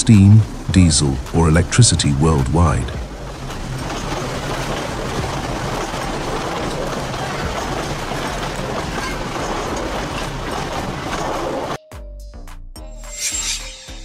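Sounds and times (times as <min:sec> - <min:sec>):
train cars rolling past on rails: 0:00.4 - 0:11.8.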